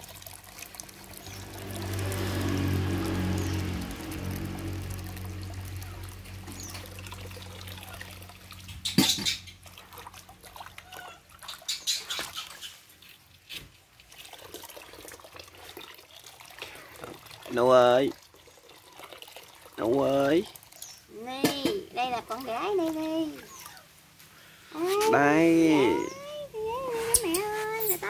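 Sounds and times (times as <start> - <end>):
water trickling and splashing: 0.0 - 28.0.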